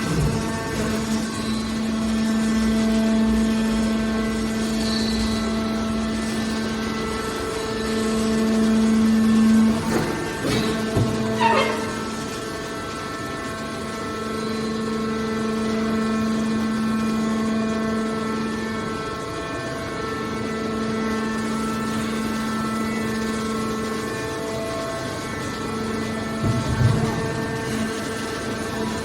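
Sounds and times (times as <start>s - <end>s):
hydraulic power unit hum: 0.0s - 29.0s
pump whine: 0.0s - 29.0s.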